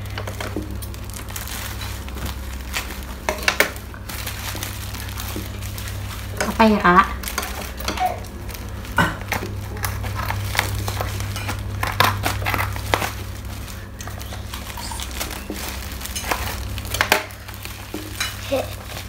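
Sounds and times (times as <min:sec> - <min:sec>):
plastic crinkling: 0:00.0 - 0:19.0
steady low hum: 0:00.0 - 0:19.0.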